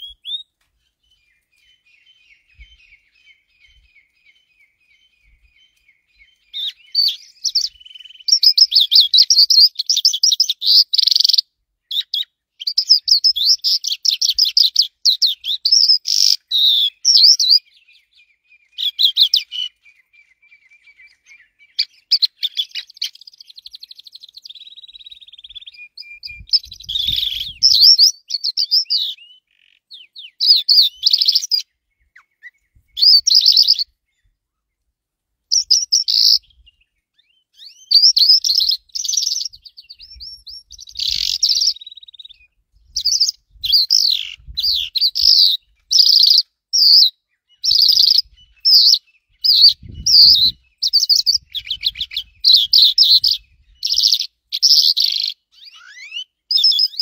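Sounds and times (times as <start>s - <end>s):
bird chirping: 0.0s - 34.9s, 35.5s - 57.0s.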